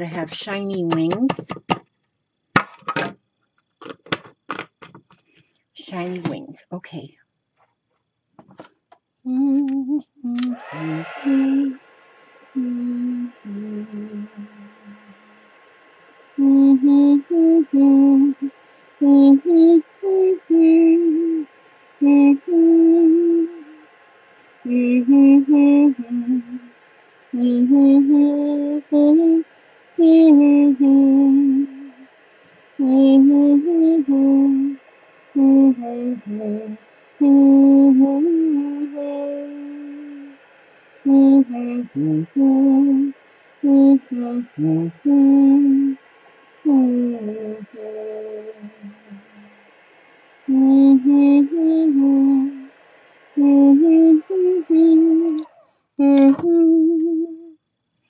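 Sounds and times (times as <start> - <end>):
heat gun whirring: 0.0 - 1.9, 9.3 - 57.2
woman humming a slow tune: 9.2 - 11.8, 12.5 - 15.5, 16.2 - 57.6.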